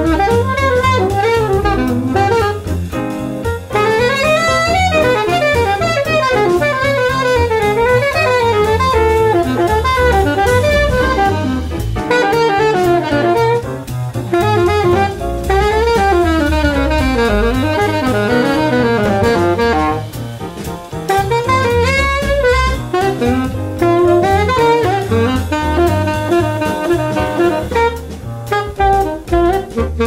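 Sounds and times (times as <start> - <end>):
drums: 0.0 - 30.0
saxophone playing jazz: 0.0 - 30.0
walking bass: 0.0 - 30.0.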